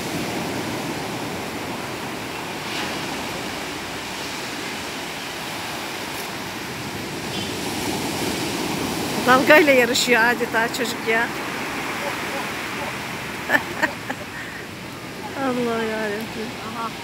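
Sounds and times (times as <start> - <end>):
foam washing up beach: 0.0 - 17.0
waves breaking: 0.0 - 17.0.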